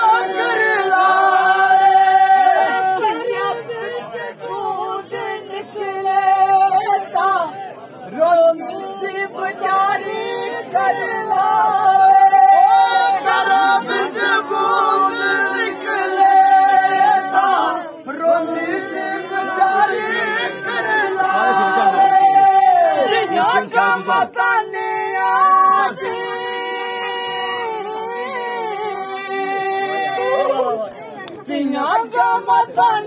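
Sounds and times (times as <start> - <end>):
men singing unaccompanied: 0.0 - 30.8, 31.4 - 33.0.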